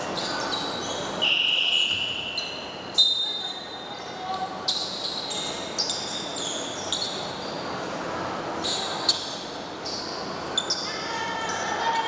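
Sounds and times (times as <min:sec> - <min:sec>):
murmur of echoing gym: 0:00.0 - 0:12.0.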